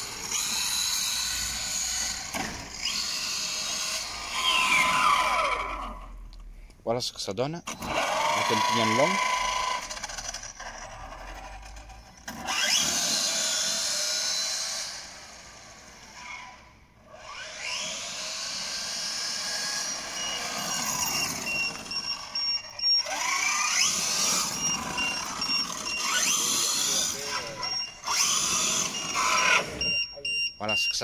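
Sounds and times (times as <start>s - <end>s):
electric rc car motor whining: 0.0s - 6.3s, 7.7s - 30.1s.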